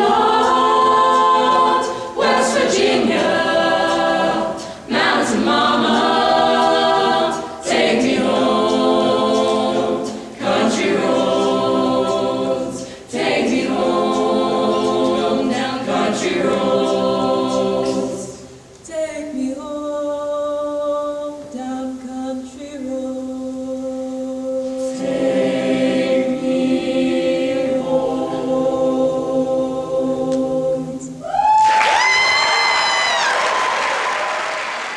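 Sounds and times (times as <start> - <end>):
choir singing in harmony: 0.0 - 31.3.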